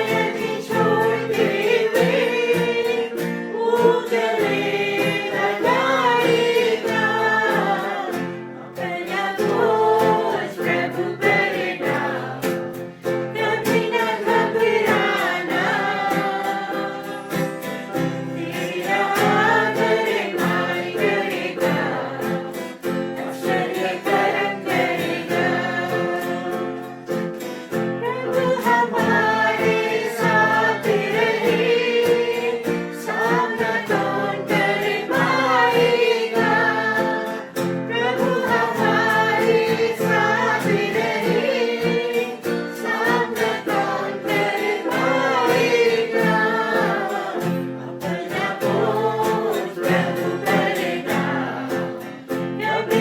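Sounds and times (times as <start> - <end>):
instrumental accompaniment: 0.0 - 53.0
voices singing worship song: 0.0 - 53.0.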